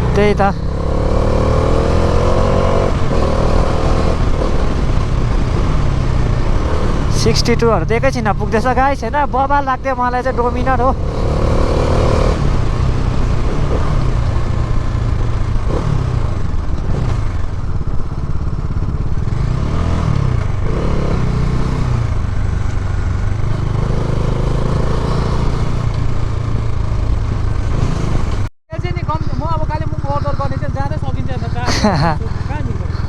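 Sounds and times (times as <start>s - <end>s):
motorcycle engine revving: 0.0s - 33.0s
wind and road noise: 0.0s - 33.0s.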